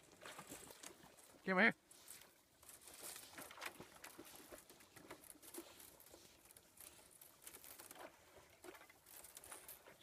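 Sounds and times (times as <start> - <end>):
dog swimming through water: 0.0 - 10.0.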